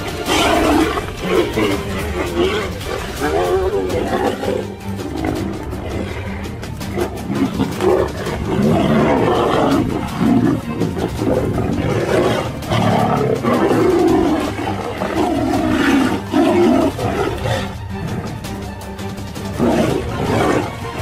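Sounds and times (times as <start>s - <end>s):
tigers snarling and roaring: 0.0s - 21.0s.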